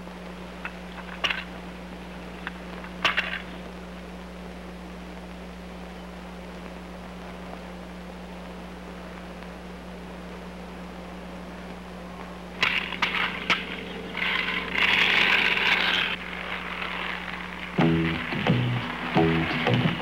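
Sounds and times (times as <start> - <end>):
electrical hum and hiss: 0.0 - 20.0.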